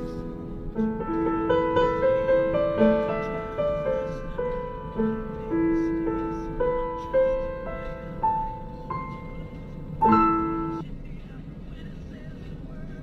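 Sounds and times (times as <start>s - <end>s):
slow piano music: 0.0s - 10.8s.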